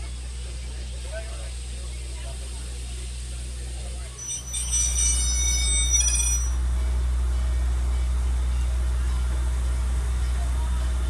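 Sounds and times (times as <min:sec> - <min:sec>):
steam locomotive low rumble: 0:00.0 - 0:11.0.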